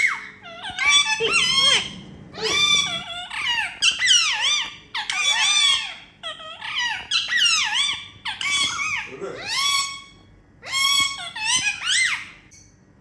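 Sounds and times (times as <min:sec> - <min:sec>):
parrots squawking: 0:00.0 - 0:12.4.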